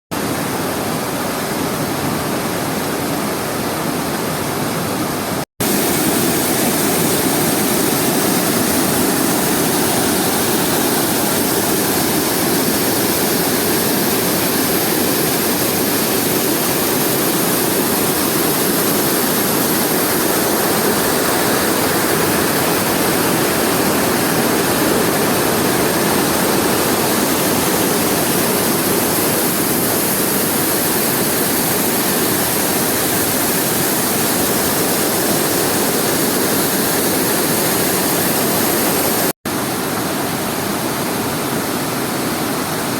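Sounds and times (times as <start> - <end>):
waterfall rushing into pool: 0.2 - 42.9.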